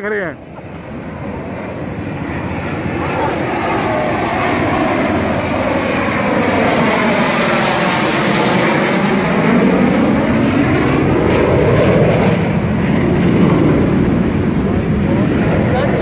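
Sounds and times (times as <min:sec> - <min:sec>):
high jet whine: 0:00.0 - 0:16.0
jet engines roaring overhead: 0:00.0 - 0:16.0.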